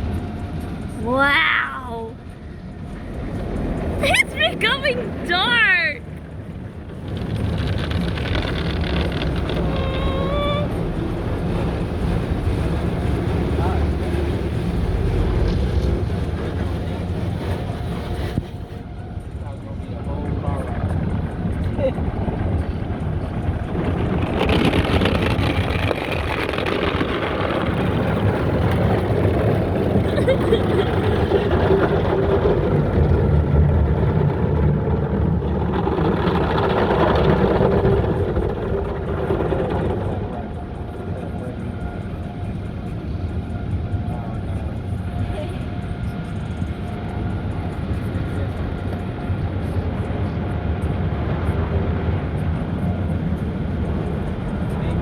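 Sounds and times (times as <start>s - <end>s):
automatic car wash from inside car: 0.0s - 55.0s.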